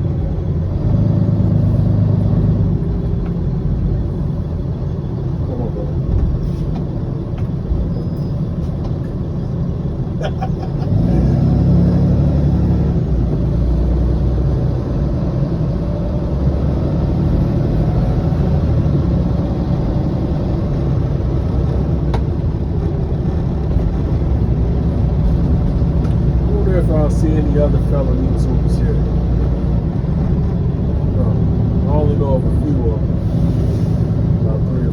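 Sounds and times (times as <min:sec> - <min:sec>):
bus engine and road noise: 0:00.0 - 0:34.9.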